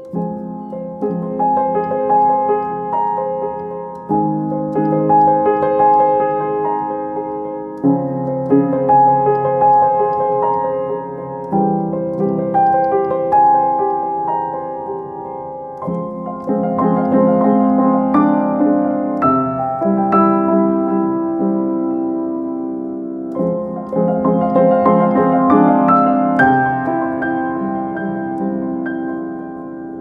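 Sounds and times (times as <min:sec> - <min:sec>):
slow piano music: 0:00.0 - 0:30.0.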